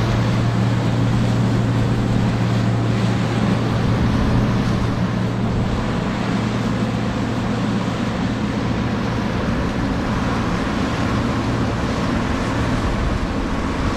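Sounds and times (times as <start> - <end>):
combine harvester engine hum: 0.0 - 13.9.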